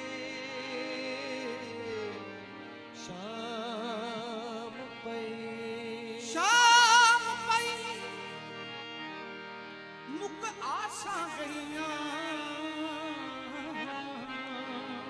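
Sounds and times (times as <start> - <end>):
man singing with vibrato: 0.0 - 8.7, 10.1 - 15.0
harmonium note: 0.0 - 15.0.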